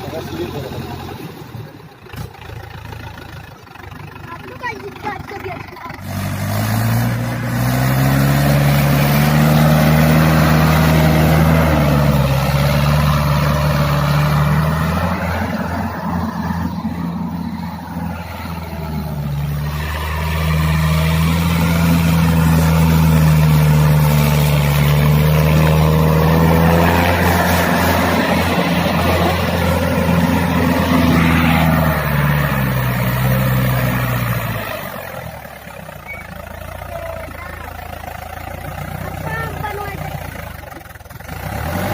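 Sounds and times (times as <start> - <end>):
tractor diesel engine revving: 0.0 - 41.9.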